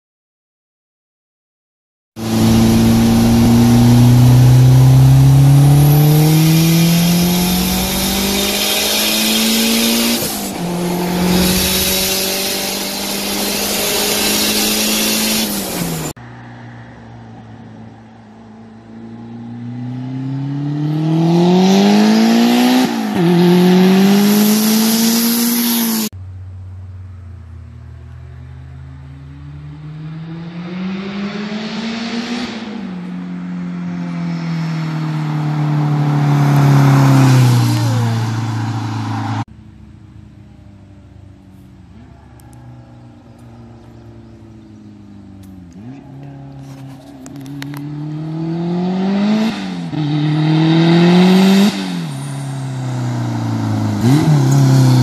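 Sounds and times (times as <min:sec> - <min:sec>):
turbocharged car engine accelerating: 0:02.2 - 0:55.0.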